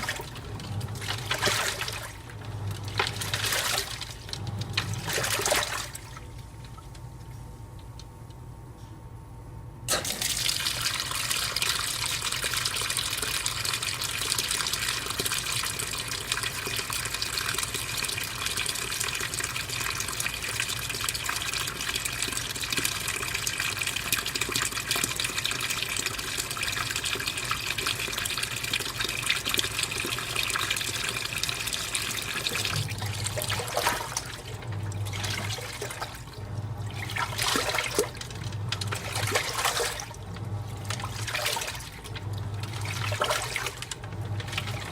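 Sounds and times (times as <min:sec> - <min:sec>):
water pouring into washing drum: 0:00.0 - 0:07.0, 0:09.9 - 0:44.9
washing drum agitating: 0:00.0 - 0:08.0, 0:09.9 - 0:44.9.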